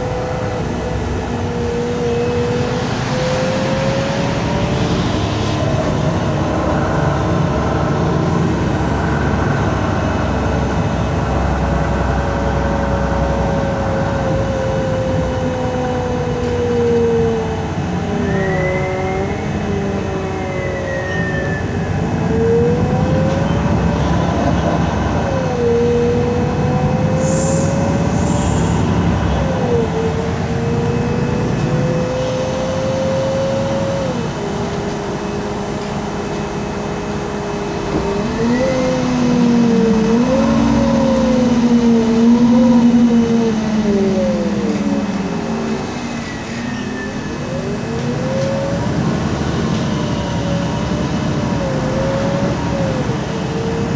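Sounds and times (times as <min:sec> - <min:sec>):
bus engine running: 0:00.0 - 0:53.9
road rumble: 0:00.0 - 0:53.9.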